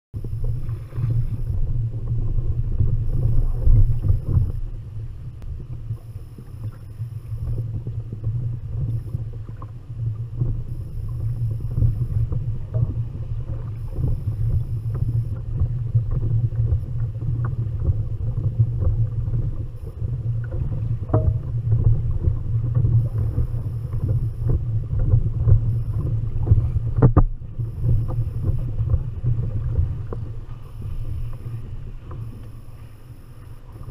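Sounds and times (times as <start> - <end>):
water slapping against hull: 0.2 - 33.9
wind rumbling on microphone: 0.2 - 33.9.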